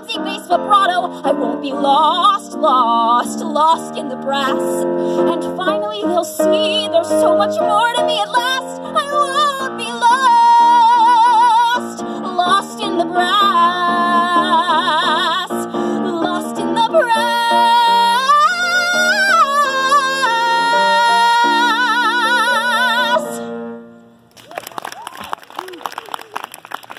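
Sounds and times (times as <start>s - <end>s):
woman singing with vibrato: 0.0s - 23.6s.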